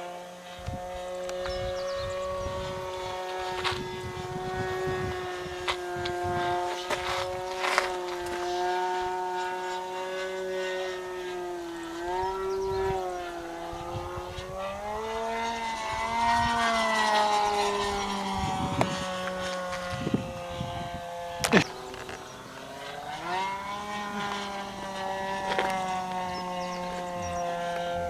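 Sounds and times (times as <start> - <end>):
model airplane engine buzzing: 0.0 - 28.0.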